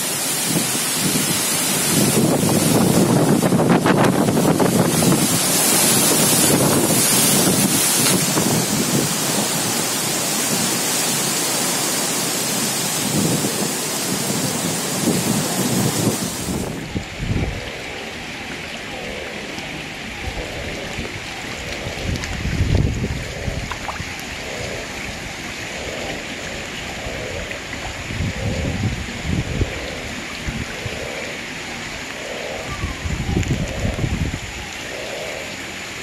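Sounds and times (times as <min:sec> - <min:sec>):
heavy rain: 0:00.0 - 0:36.0
strong wind: 0:00.0 - 0:36.0.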